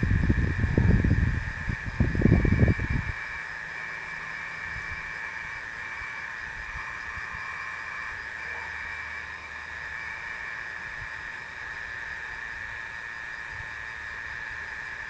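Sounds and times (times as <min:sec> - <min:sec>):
night insects chorus: 0:00.5 - 0:15.0.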